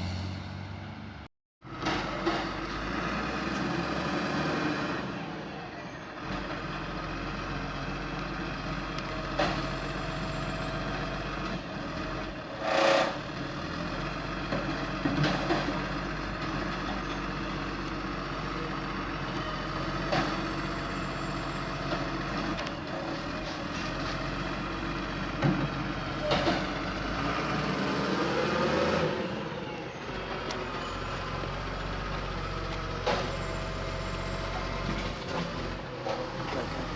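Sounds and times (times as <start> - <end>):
garbage truck engine running: 1.6 - 36.9.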